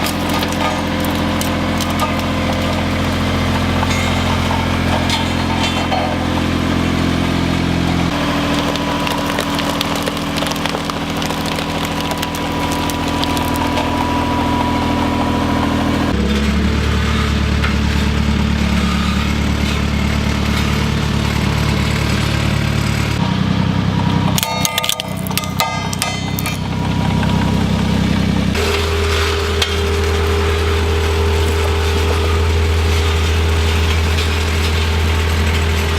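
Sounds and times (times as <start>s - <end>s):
road roller engine running: 0.0s - 35.9s.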